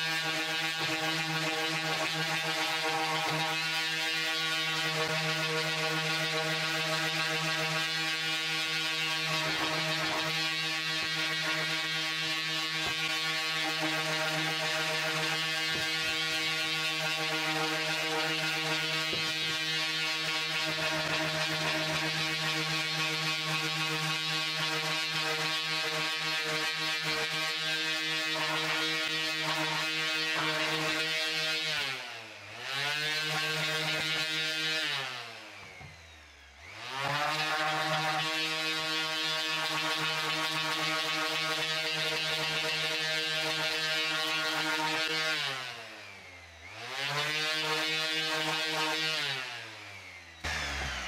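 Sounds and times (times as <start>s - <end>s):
orbital sander humming: 0.0s - 51.0s.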